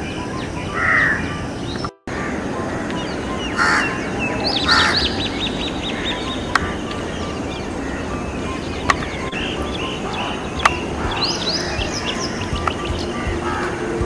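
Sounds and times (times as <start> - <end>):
harsh bird calls: 0.0 - 14.0
high falling whistled bird notes: 0.0 - 14.0.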